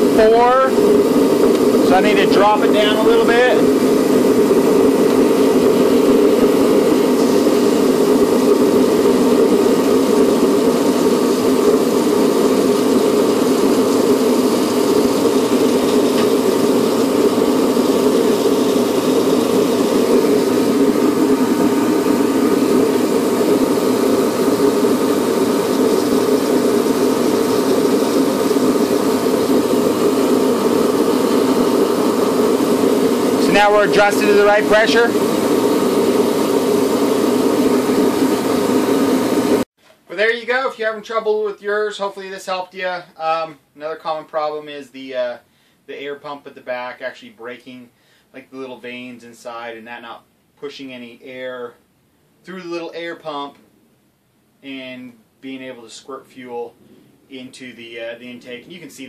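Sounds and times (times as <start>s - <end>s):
forced-air heater humming: 0.0s - 59.0s.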